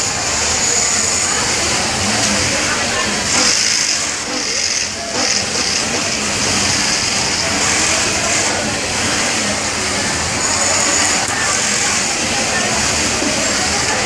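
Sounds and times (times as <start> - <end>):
industrial sewing machines whirring: 0.0 - 14.0.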